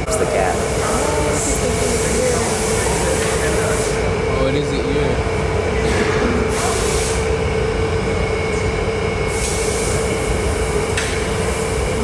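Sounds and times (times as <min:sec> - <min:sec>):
constant hum: 0:00.0 - 0:12.0
furnace and blowers roaring: 0:00.0 - 0:12.0.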